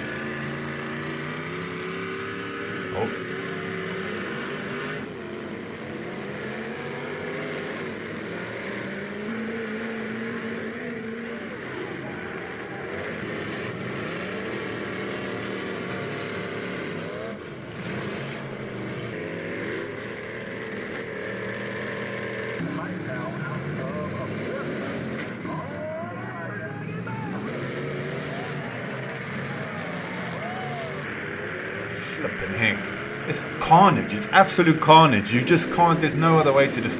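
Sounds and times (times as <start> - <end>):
car engines revving: 0.0 - 36.9.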